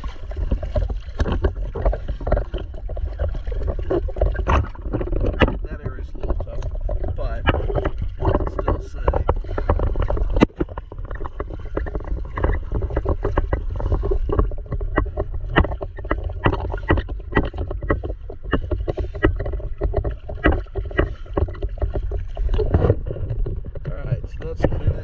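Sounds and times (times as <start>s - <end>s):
steady low rumble: 0.0s - 25.0s
underwater scraping of boat hull: 0.0s - 25.0s.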